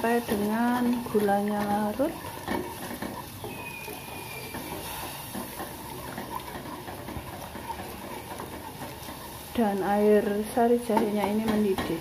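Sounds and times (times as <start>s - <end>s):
liquid heating hiss: 0.0s - 12.0s
wooden spatula scraping a saucepan: 0.0s - 12.0s.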